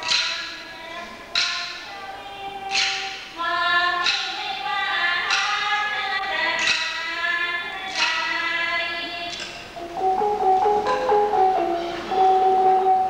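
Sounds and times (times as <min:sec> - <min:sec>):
hand cymbals striking: 0:00.0 - 0:08.6, 0:09.2 - 0:13.0.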